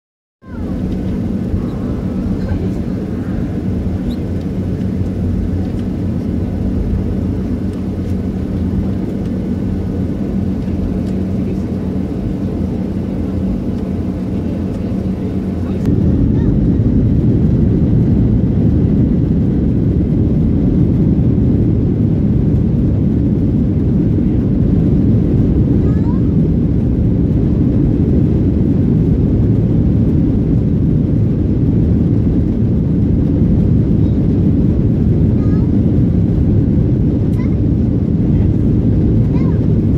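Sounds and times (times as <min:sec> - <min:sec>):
constant cabin hum: 0:00.4 - 0:39.9
jet engine low rumble: 0:00.4 - 0:39.9.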